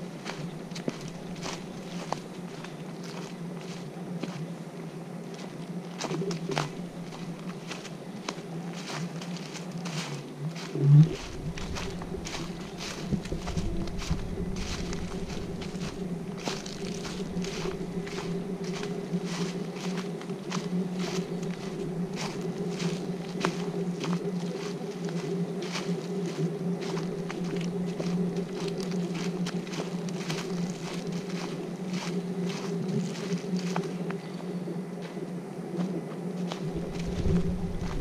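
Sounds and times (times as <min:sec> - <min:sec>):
footsteps on a trail: 0:00.0 - 0:38.0
steady low hum: 0:00.0 - 0:38.0.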